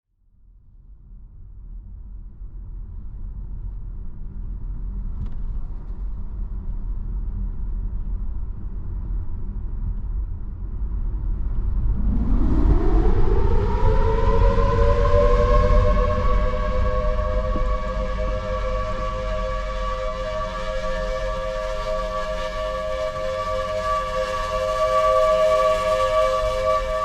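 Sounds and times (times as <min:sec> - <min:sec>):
low steady rumble: 0:00.7 - 0:27.0.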